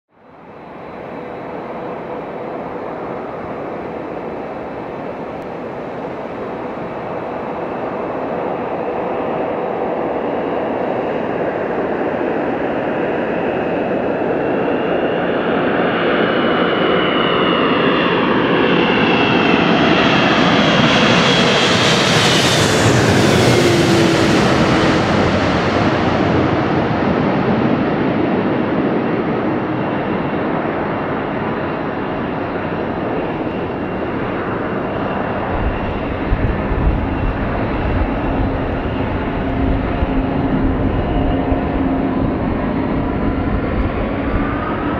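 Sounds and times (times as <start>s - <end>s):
jet engines passing overhead: 0.2s - 44.9s.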